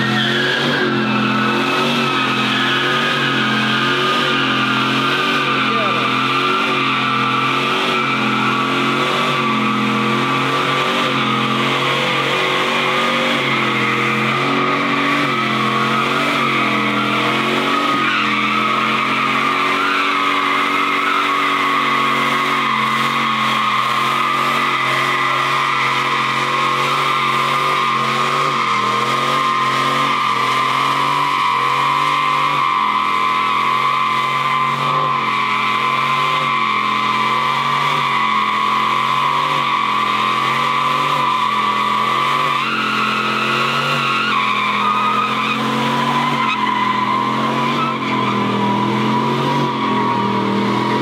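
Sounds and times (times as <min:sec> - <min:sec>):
car engine revving high: 0:00.0 - 0:51.0
tyres squealing: 0:00.0 - 0:51.0.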